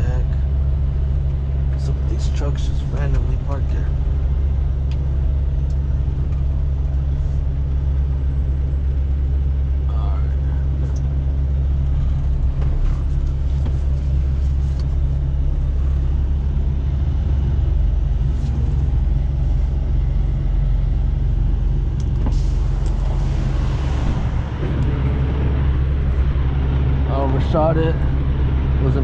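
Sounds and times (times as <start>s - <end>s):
diesel truck engine rumbling: 0.0s - 29.0s.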